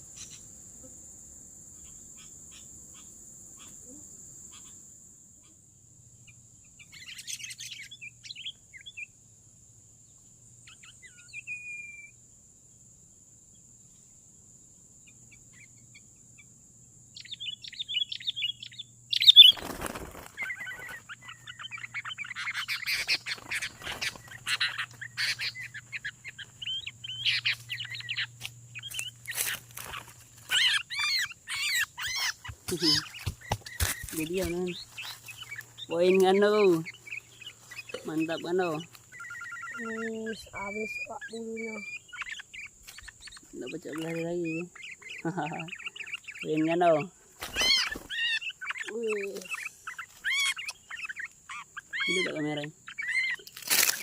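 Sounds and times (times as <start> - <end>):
birds chirping and scolding: 0.0 - 0.7, 1.6 - 12.2, 12.8 - 54.0.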